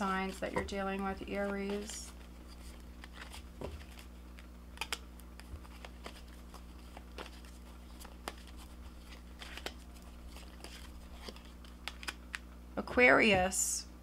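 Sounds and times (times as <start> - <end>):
cards shuffling: 0.0 - 12.5.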